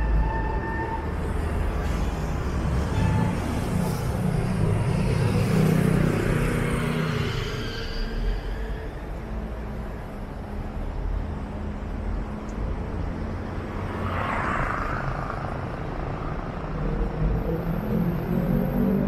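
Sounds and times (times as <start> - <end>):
road traffic rumble: 0.0 - 19.0
vehicle engine: 1.1 - 19.0.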